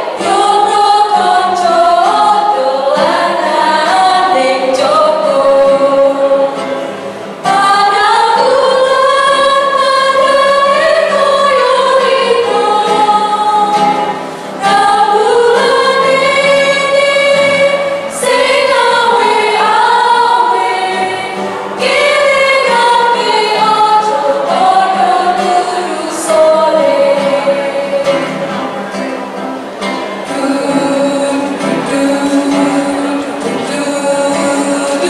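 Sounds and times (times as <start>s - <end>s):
women singing in harmony: 0.0s - 28.5s, 30.2s - 35.0s
acoustic guitars: 0.0s - 35.0s.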